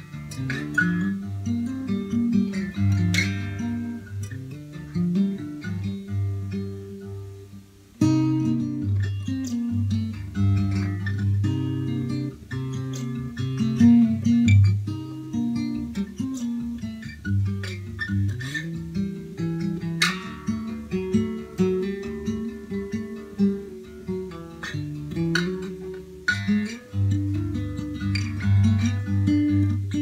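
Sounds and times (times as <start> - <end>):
fingerpicked acoustic guitar: 0.0 - 30.0.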